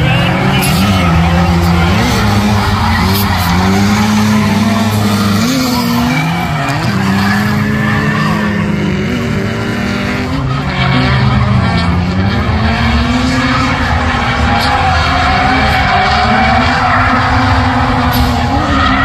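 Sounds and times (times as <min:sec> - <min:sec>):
car engines revving: 0:00.0 - 0:19.0
tyres skidding and squealing: 0:00.0 - 0:19.0.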